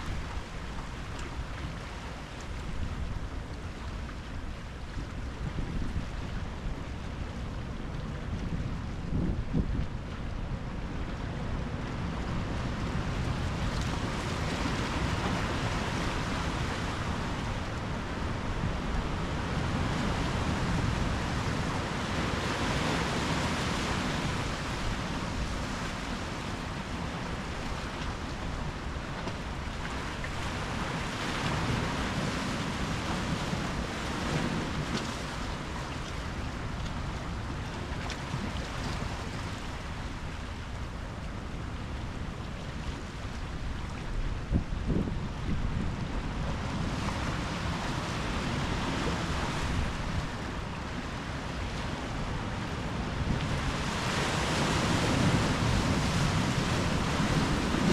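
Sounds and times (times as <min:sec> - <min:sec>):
waves breaking on shore: 0:00.0 - 0:57.9.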